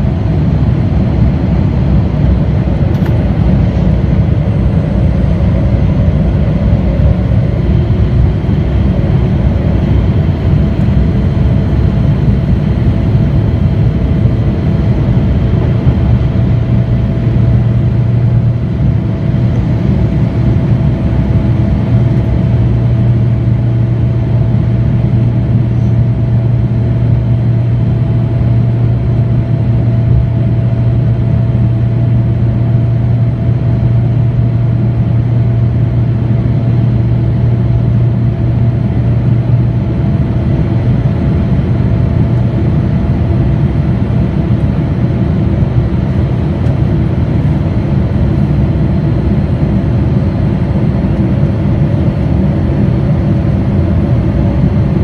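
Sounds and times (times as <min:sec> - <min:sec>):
jet engines roaring in cabin: 0:00.0 - 0:55.0.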